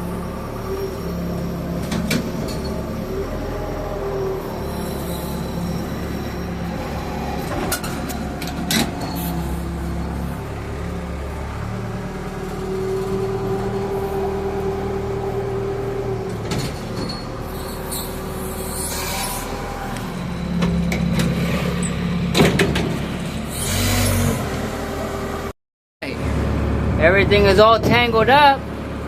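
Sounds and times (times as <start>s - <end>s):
excavator diesel engine droning: 0.0s - 29.0s.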